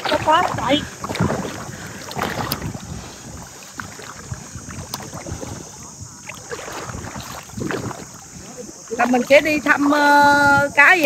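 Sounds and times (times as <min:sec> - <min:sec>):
water sloshing and splashing: 0:00.0 - 0:11.0
wind rumble on microphone: 0:00.0 - 0:11.0.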